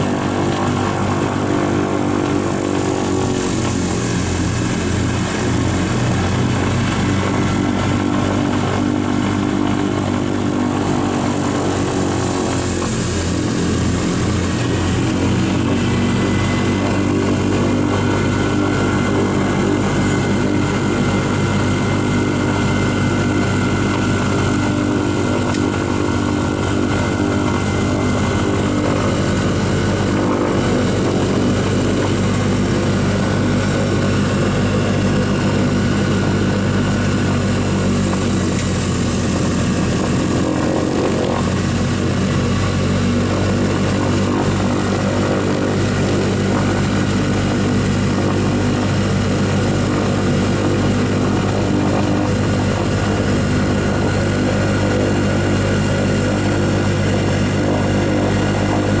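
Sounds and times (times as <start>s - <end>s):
piston aircraft engines running: 0.0s - 59.0s.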